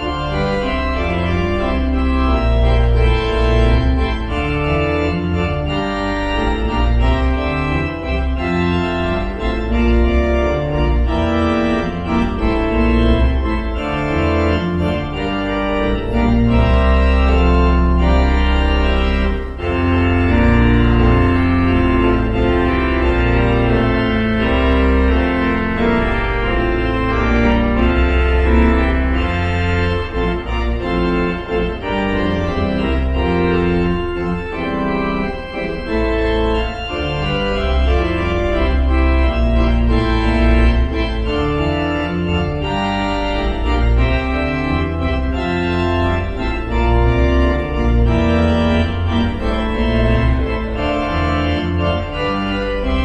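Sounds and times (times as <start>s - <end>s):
organ chords: 0.0s - 53.0s.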